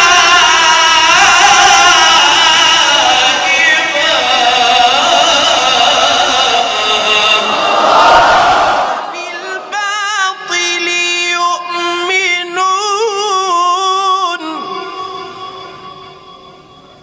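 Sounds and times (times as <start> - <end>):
person chanting recitation: 0.0 - 8.0, 8.9 - 16.3.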